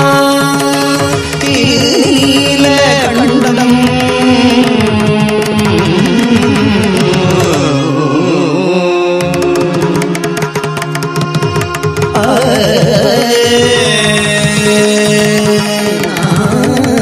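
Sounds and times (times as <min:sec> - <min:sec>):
hand drum strokes: 0:00.0 - 0:17.0.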